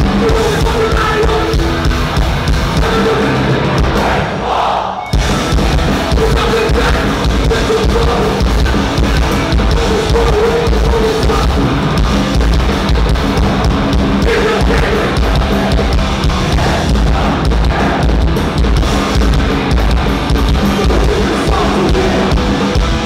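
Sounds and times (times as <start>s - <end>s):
punk band playing live: 0.0s - 23.0s.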